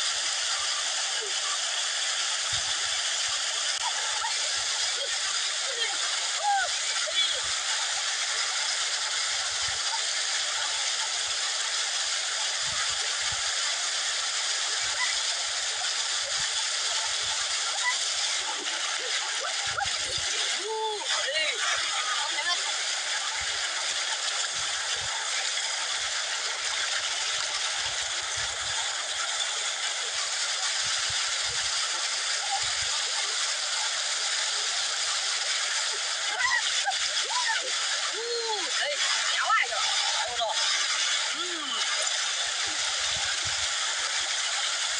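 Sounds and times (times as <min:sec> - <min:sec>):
stream water rushing over rocks: 0:00.0 - 0:44.9
water pouring into pool: 0:00.0 - 0:44.9.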